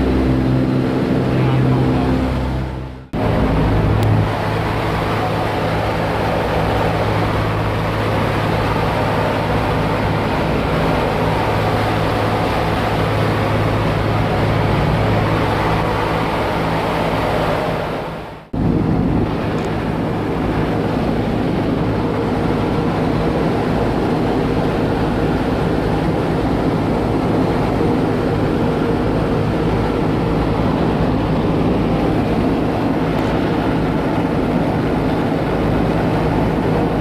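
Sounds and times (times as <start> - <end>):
aircraft radial engines droning: 0.0 - 37.0.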